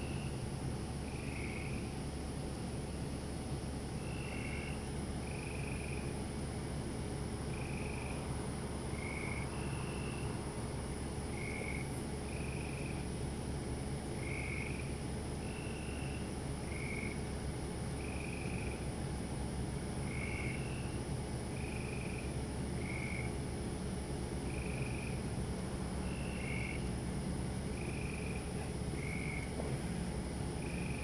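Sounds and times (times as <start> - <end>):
frogs calling: 0.0 - 2.1, 3.9 - 6.2, 7.4 - 31.0
crickets droning: 0.0 - 31.0.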